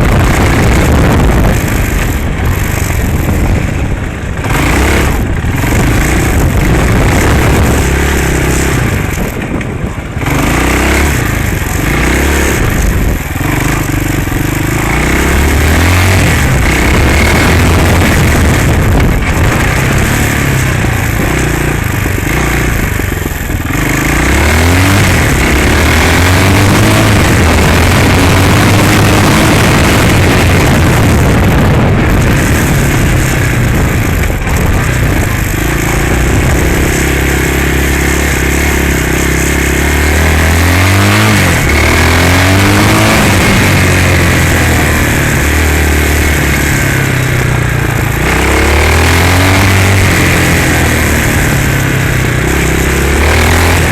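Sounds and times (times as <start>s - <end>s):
dirt bike engine accelerating: 0.0s - 53.9s.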